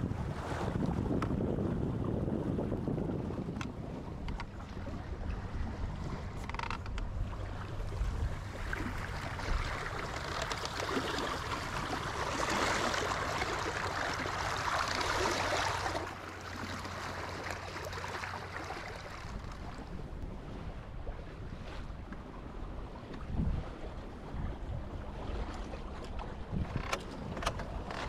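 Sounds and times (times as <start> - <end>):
water splashing along boat hull: 0.0 - 28.0.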